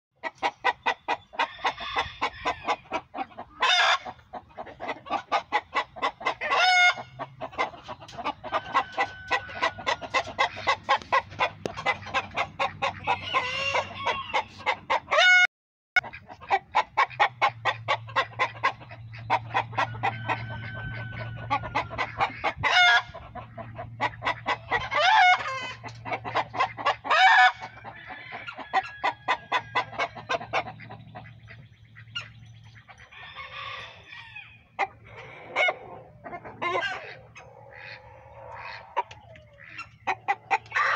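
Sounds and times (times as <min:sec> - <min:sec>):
chicken squawking: 0:00.2 - 0:40.9
chickens clucking: 0:00.2 - 0:40.9.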